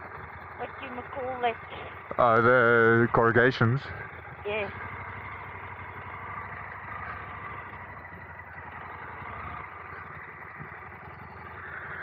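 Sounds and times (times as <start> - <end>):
motorcycle engine on dirt road: 0.0 - 12.0.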